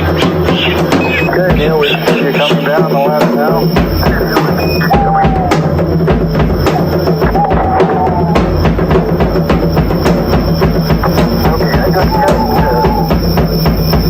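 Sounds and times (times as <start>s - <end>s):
drum kit solo: 0.0s - 14.0s
whistle-like tones: 0.0s - 14.0s.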